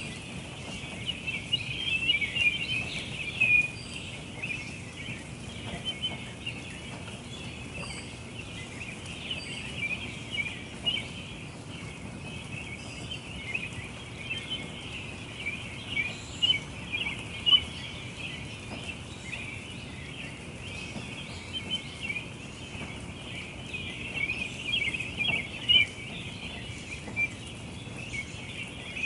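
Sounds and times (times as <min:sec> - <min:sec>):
low background noise: 0:00.0 - 0:29.0
songbirds chirping: 0:00.0 - 0:29.0.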